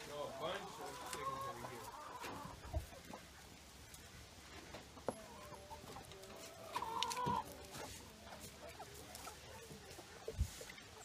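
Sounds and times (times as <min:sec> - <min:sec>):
chickens clucking softly: 0:00.0 - 0:11.0
drawn-out chicken call: 0:00.2 - 0:03.5, 0:04.7 - 0:11.0.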